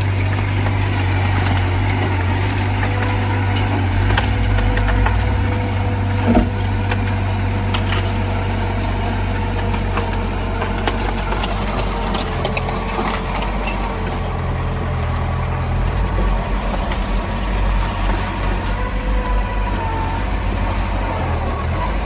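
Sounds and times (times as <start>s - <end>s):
diesel machinery engine rumble: 0.0s - 22.0s.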